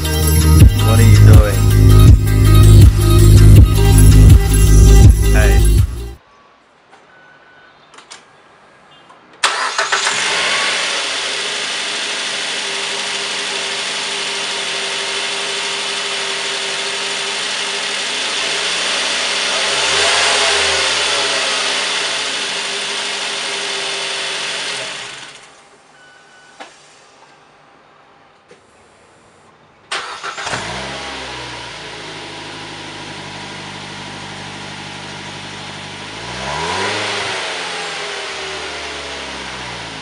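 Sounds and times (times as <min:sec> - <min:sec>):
car engine starting and idling: 0:00.0 - 0:06.2, 0:09.4 - 0:25.8, 0:29.8 - 0:40.0.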